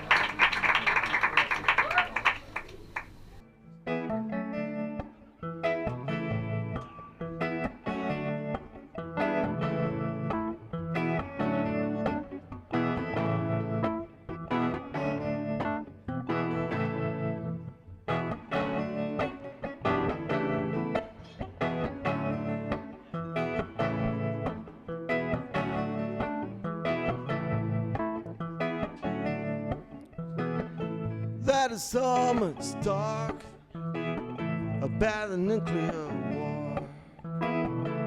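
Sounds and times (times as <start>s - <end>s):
guitar strumming chords: 3.4s - 38.0s.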